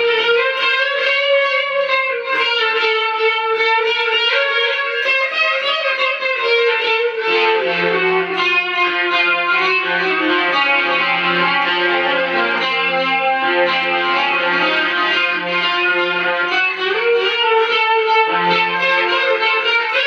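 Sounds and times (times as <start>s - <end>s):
clean electric guitar: 0.0s - 20.0s.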